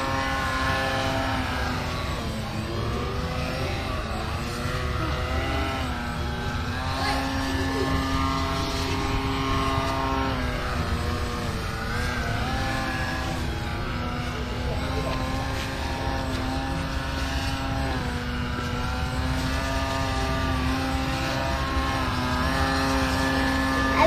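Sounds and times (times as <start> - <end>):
model plane motor and propeller whining: 0.0 - 24.0.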